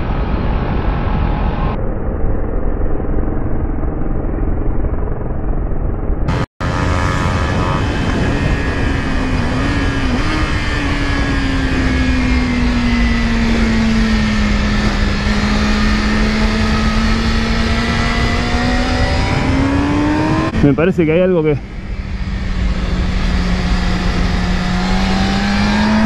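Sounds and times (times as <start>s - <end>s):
motorcycle engine at speed: 0.0s - 26.0s
wind rushing over microphone: 0.0s - 26.0s.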